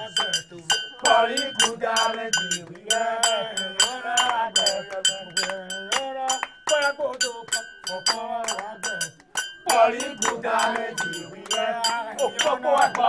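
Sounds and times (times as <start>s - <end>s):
group singing: 0.0s - 13.0s
hand clapping: 0.0s - 13.0s
metal bell struck rhythmically: 0.0s - 13.0s.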